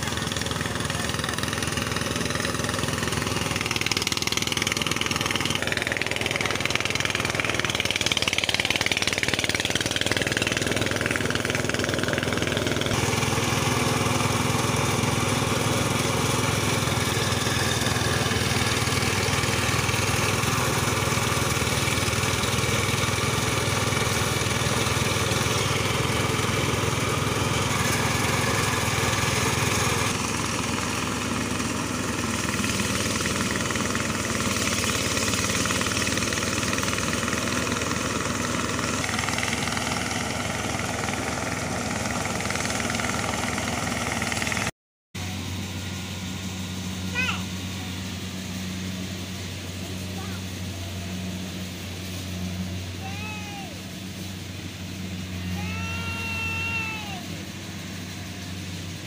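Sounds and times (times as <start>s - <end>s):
small engine running: 0.0s - 59.0s
thresher whine: 0.0s - 59.0s.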